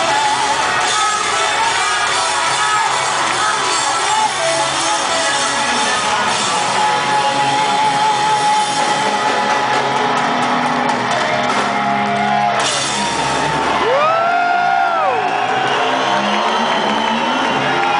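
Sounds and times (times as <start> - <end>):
live rock band playing: 0.0 - 17.9.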